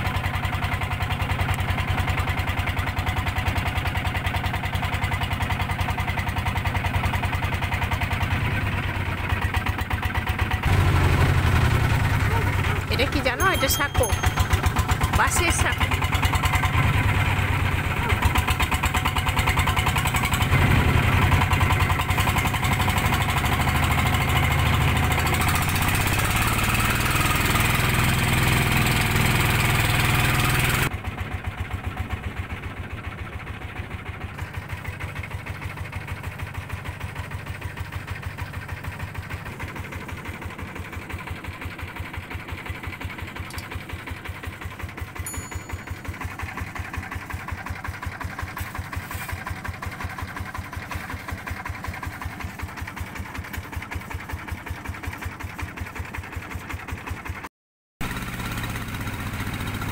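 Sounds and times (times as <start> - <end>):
boat engine running: 0.0 - 57.4.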